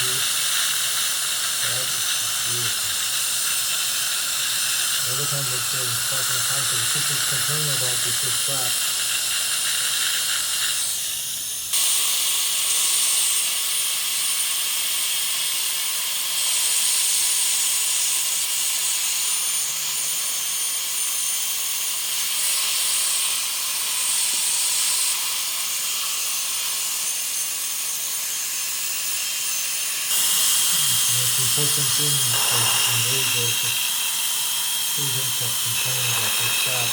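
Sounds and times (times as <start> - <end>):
dental drill hissing and whining: 0.0 - 36.9.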